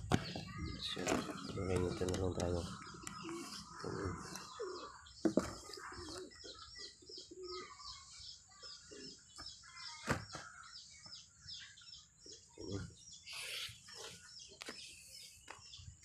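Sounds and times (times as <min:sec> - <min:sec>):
low wavering bird calls: 0:00.0 - 0:15.9
small high bird chirps: 0:00.1 - 0:16.0.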